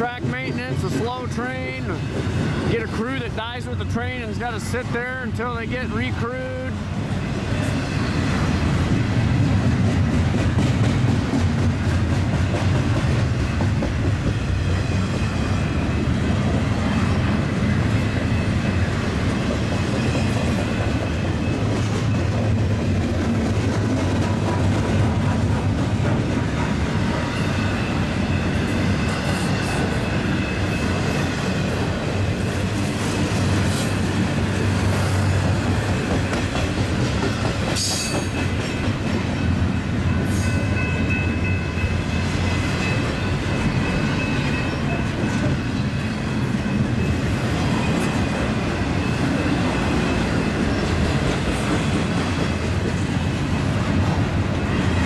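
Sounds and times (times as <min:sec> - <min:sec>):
steel train wheels on rails: 0:00.0 - 0:55.0.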